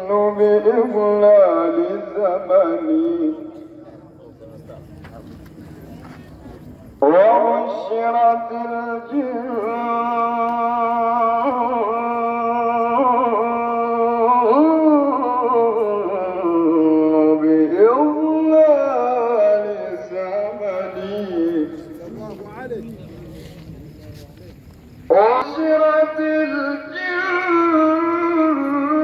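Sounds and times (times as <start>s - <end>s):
man chanting: 0.0s - 5.4s, 7.0s - 23.6s, 25.1s - 29.0s.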